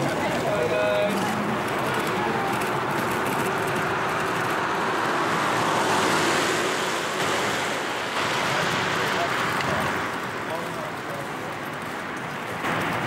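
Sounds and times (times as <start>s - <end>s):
tyres rushing on street: 0.0s - 13.0s
vehicle passing: 0.0s - 13.0s.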